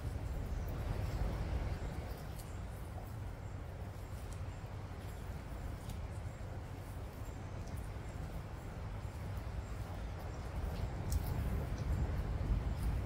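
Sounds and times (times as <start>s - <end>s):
steady low rumble: 0.0s - 13.0s
tortoises crunching grass: 0.0s - 13.0s.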